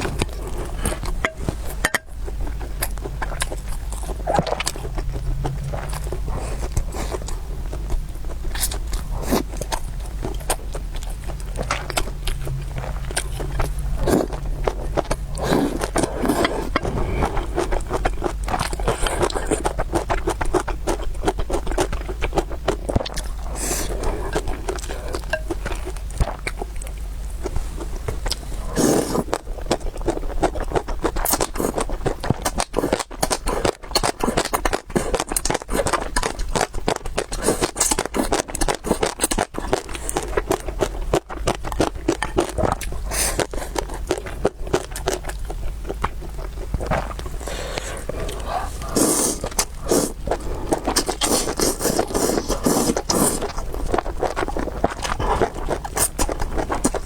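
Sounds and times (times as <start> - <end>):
person chewing noodles: 0.0 - 57.0.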